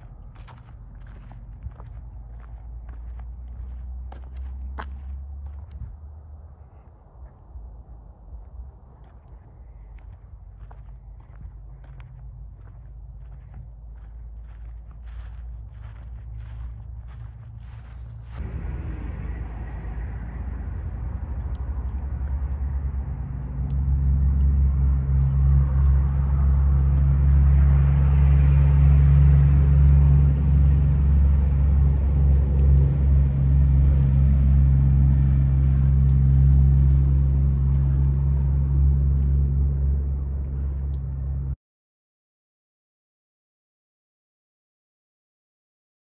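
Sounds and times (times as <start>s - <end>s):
low engine drone: 0.0s - 41.6s.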